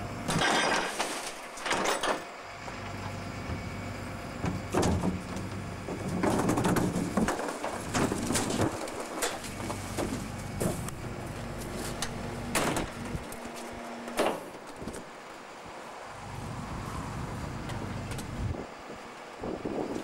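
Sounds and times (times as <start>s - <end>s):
hydraulic packer hum and whine: 0.0s - 20.0s.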